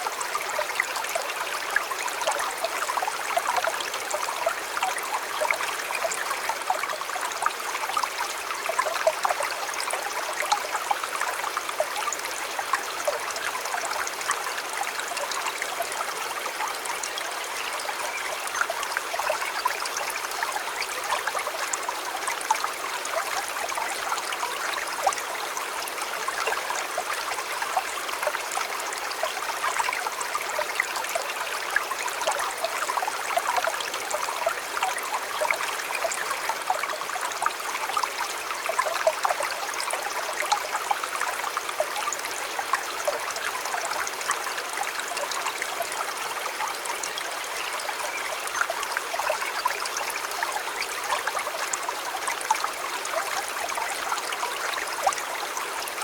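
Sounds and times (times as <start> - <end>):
shallow stream running: 0.0 - 56.0.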